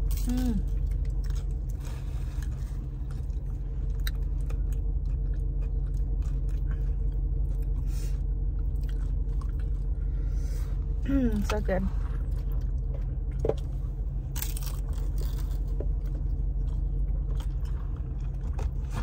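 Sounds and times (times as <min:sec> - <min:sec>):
chewing crunchy taco: 0:00.0 - 0:10.2, 0:12.0 - 0:19.0
steady low hum: 0:00.0 - 0:19.0.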